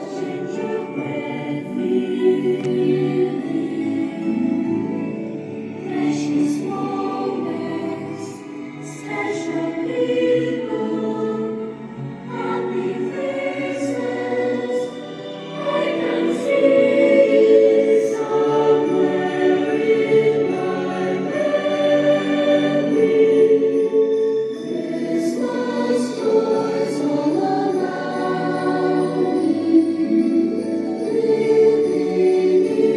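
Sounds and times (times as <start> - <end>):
choir singing sustained notes: 0.0 - 32.9.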